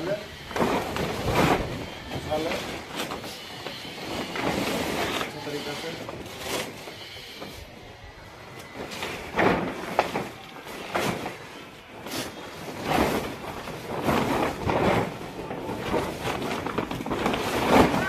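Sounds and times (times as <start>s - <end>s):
plastic tarpaulin rustling: 0.0s - 7.6s, 8.5s - 18.0s.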